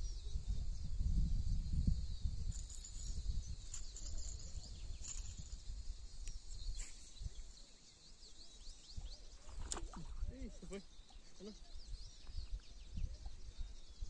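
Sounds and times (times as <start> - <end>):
wind rumbling on microphone: 0.0 - 7.6, 8.6 - 10.7, 11.6 - 14.0
bird chirps: 2.5 - 14.0.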